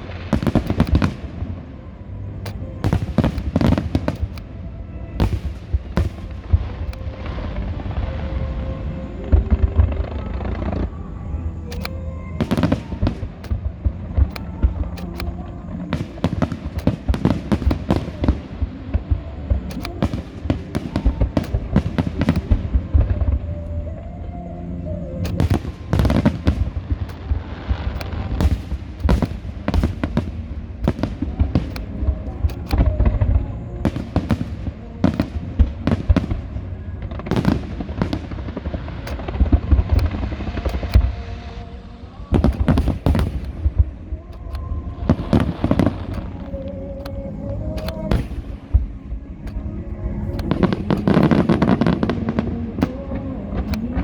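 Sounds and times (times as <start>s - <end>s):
fireworks bursts and crackling bangs: 0.0s - 54.0s.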